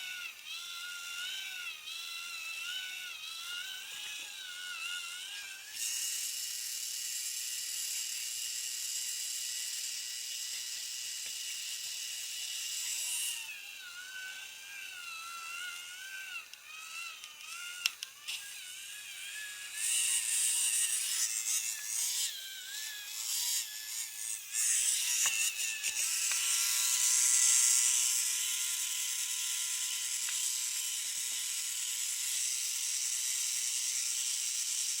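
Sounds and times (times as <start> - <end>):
drill bit cutting wood hiss: 0.0 - 35.0
small motor drill whining: 0.0 - 35.0.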